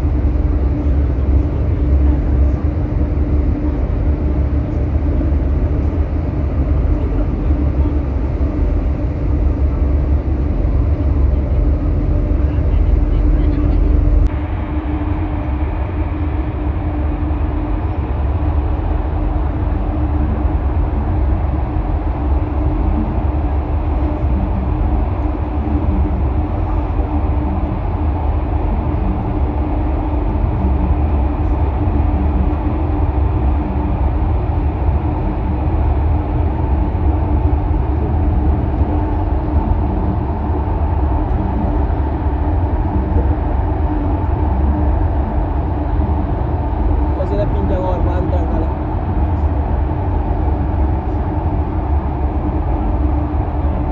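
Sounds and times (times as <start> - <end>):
ship engines droning: 0.0 - 53.9.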